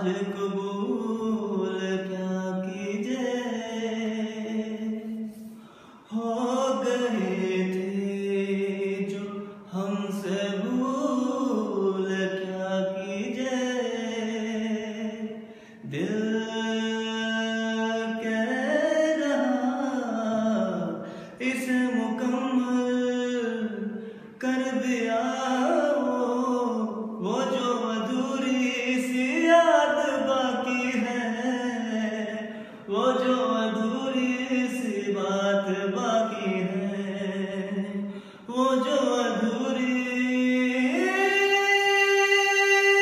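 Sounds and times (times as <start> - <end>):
man singing unaccompanied: 0.0 - 43.0.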